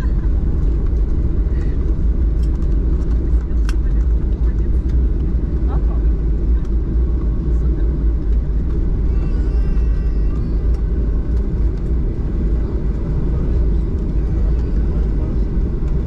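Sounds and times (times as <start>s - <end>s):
jet cabin rumble on landing: 0.0s - 16.0s.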